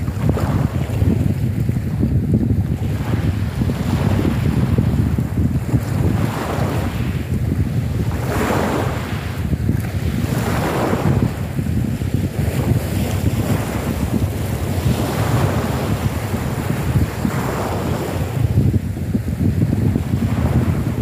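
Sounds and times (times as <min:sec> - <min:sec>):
wind buffeting microphone: 0:00.0 - 0:21.0
waves washing onto pebble beach: 0:03.0 - 0:21.0.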